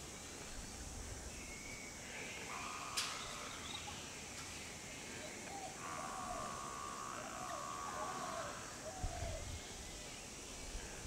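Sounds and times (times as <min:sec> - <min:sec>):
insect buzz: 0:00.0 - 0:11.0.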